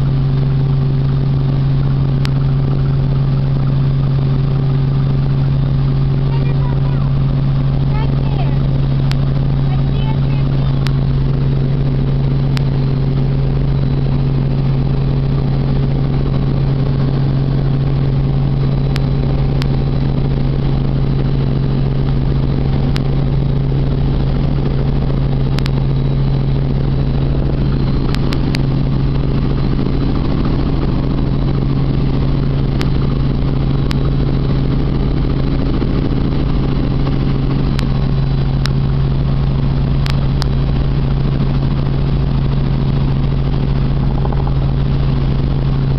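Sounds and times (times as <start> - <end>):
helicopter cabin drone: 0.0 - 45.9.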